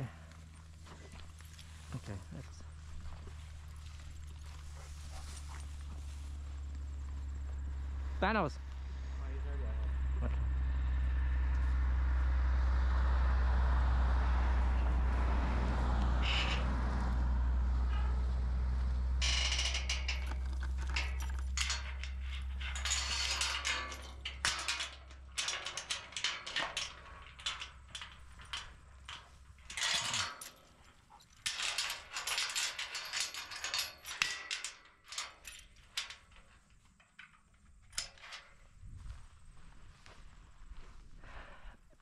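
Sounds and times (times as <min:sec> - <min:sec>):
chain and metal gate rattling: 0:00.0 - 0:10.7, 0:14.1 - 0:38.8
low steady rumble: 0:00.0 - 0:34.3.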